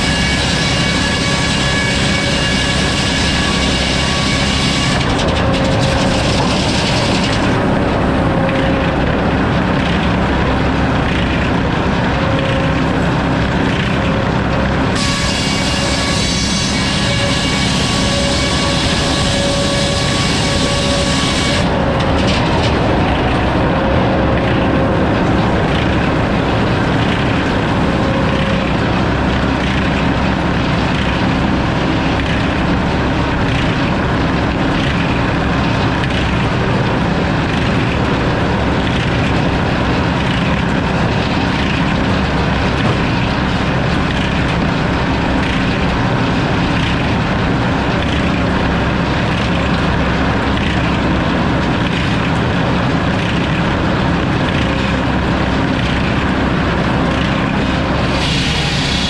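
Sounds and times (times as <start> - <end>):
saw cutting through log: 0.0 - 59.0
sawmill engine drone: 0.0 - 59.0.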